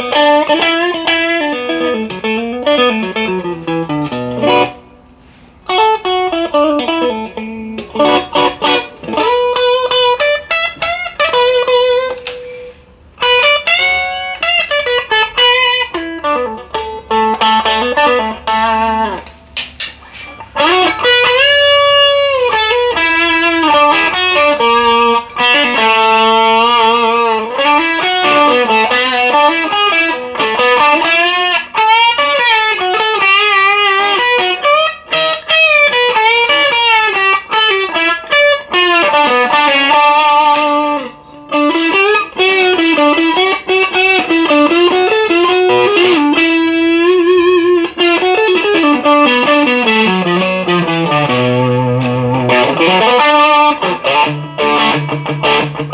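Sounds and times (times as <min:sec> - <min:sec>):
overdriven electric guitar lead: 0:00.0 - 0:55.9.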